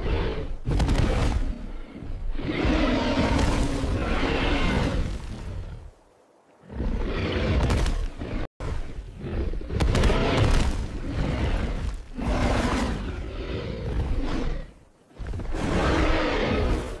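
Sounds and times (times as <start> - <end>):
growling roars: 0.0 - 5.8, 6.6 - 17.0.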